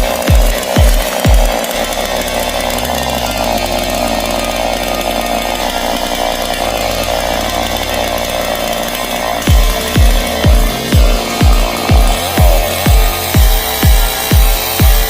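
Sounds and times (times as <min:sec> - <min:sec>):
chainsaw running at high revs: 0:00.0 - 0:15.0
electronic music bass line: 0:00.0 - 0:15.0.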